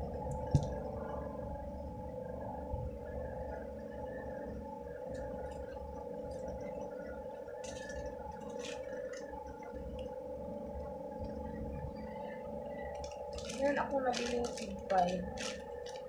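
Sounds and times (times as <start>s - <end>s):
steady hum of held tones: 0.0s - 16.0s.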